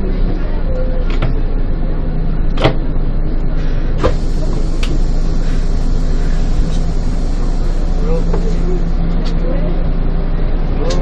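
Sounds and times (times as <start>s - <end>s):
bus engine and road rumble: 0.0s - 11.0s
constant low hum: 0.0s - 11.0s.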